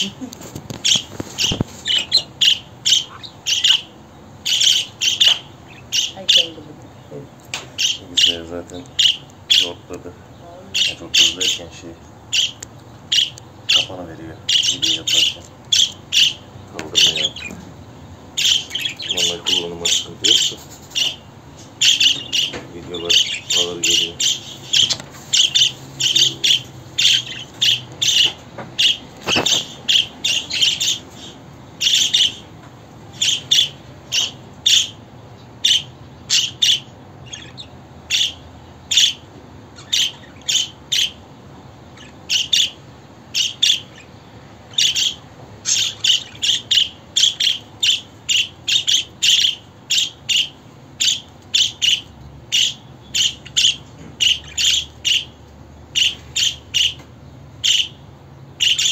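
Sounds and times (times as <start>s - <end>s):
budgerigar chirping: 0.8s - 6.7s, 7.7s - 17.6s, 18.4s - 32.5s, 33.1s - 58.9s.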